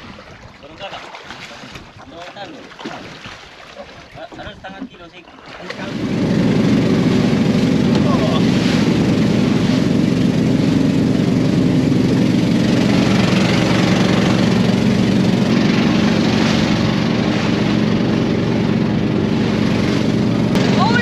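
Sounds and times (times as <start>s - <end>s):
boat engine running: 0.0s - 21.0s
water splashing along hull: 0.0s - 21.0s.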